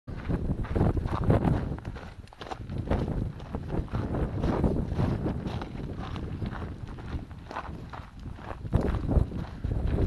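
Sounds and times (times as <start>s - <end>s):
footsteps crunching on rocky scree: 0.1s - 10.0s.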